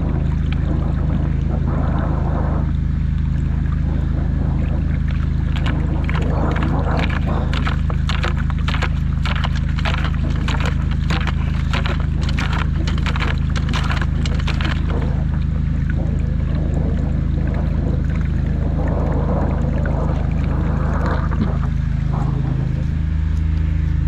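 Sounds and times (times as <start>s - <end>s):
drain jetter engine running: 0.0s - 24.0s
muddy water splashing: 0.0s - 24.0s.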